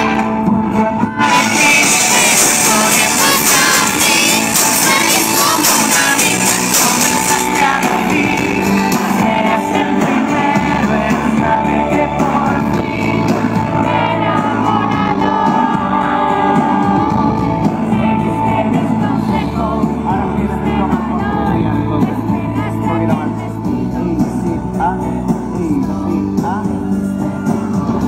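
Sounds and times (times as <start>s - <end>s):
amplified backing music: 0.0s - 28.0s
group singing live: 0.0s - 28.0s.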